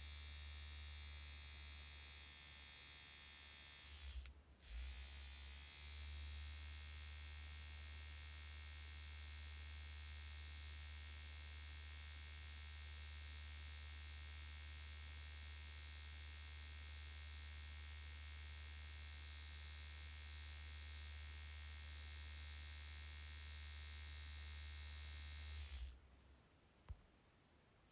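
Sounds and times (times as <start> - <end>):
electric vibrating buzz: 0.0 - 26.0.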